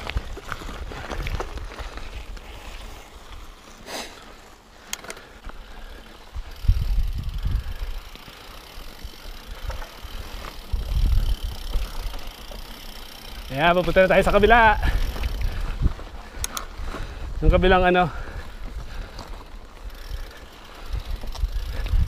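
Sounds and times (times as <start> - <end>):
bike clicks and rattles: 0.0 - 22.0
bike tyres on rocky trail: 0.0 - 22.0.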